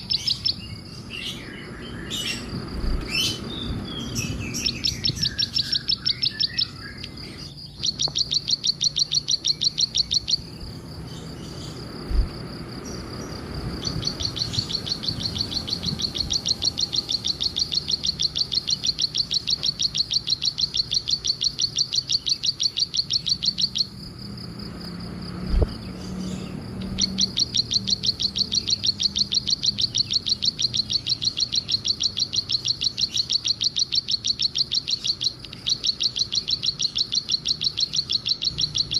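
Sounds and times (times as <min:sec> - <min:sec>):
bird calling in rapid high chirps: 0:00.0 - 0:24.0, 0:25.5 - 0:38.9.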